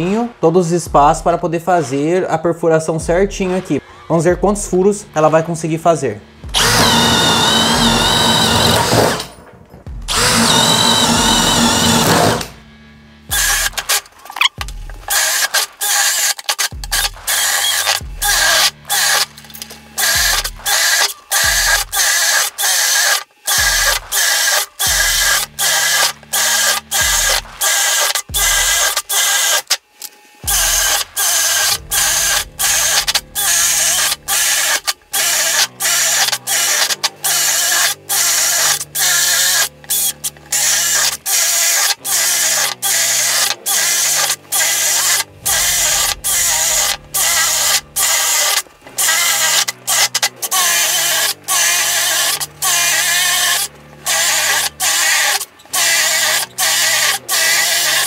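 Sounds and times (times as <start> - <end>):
cordless drill boring through wood: 6.4 - 9.4, 10.1 - 12.6, 13.3 - 19.3, 19.9 - 29.8, 30.4 - 58.0.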